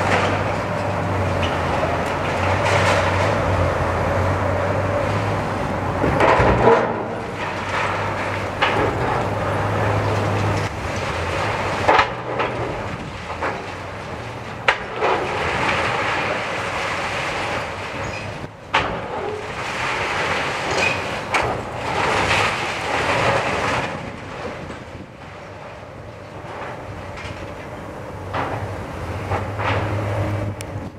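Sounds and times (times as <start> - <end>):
crunching clattering brick debris: 0.0 - 3.8, 5.9 - 30.9
excavator diesel engine: 0.0 - 30.9.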